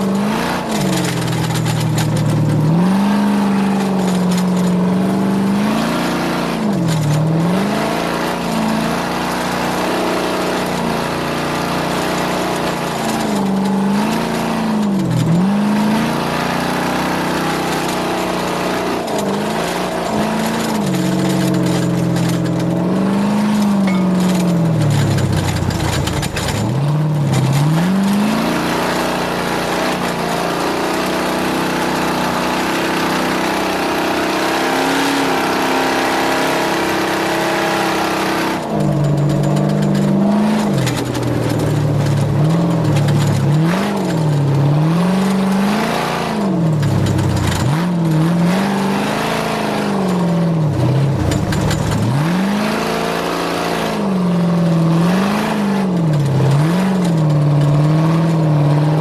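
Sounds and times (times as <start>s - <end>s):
race vehicle engine revving: 0.0s - 59.0s.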